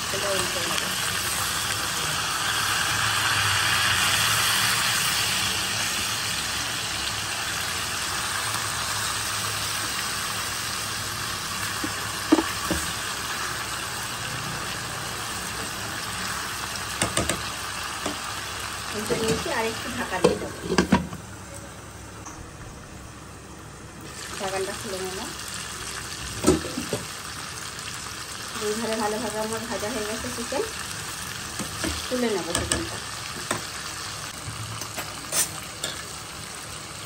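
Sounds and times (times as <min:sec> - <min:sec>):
chicken sizzling in hot oil: 0:00.0 - 0:20.9, 0:24.0 - 0:37.0.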